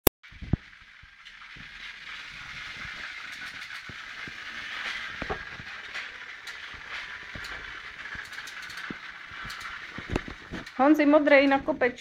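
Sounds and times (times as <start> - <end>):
small motor whirring: 0.3 - 11.6.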